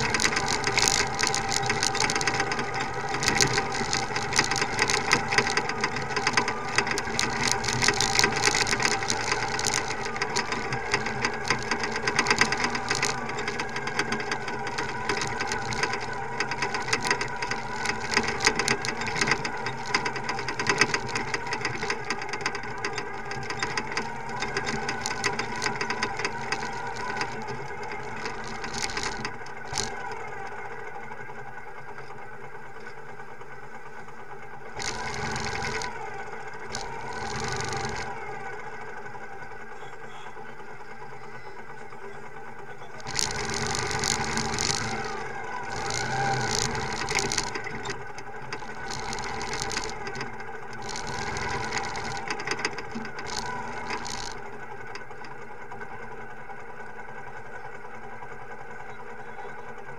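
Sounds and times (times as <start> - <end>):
clicks and rattles: 0.0 - 30.8, 34.6 - 39.2, 41.8 - 55.9
motorcycle engine running: 0.0 - 59.9.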